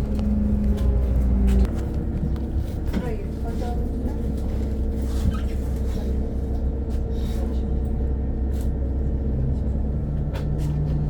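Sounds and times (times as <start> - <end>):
bus engine rumble: 0.0 - 11.0
engine hum: 0.0 - 11.0.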